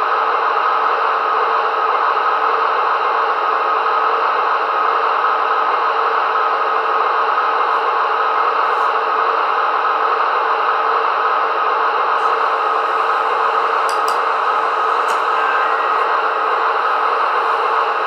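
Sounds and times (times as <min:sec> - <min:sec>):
model train diesel engine sound: 0:00.0 - 0:18.0.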